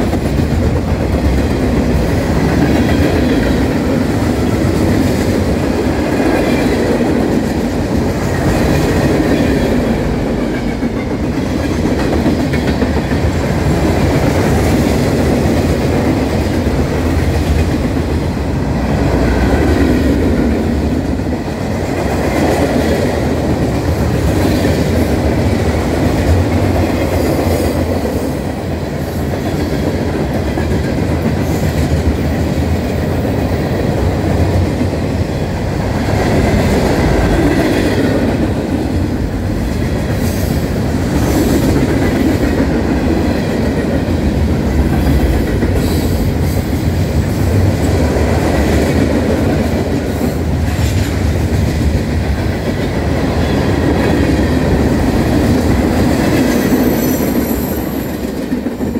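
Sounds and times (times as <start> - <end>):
clickety-clack over rail joints: 0.0 - 58.9
train wheels rumbling on rail: 0.0 - 58.9.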